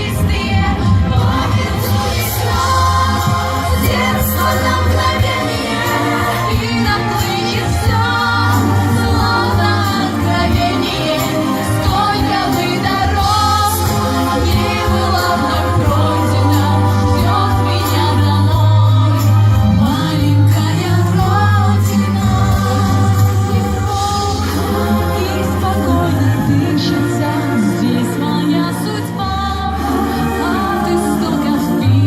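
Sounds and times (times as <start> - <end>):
backing track with bass: 0.0 - 32.0
girls singing pop song: 0.0 - 32.0.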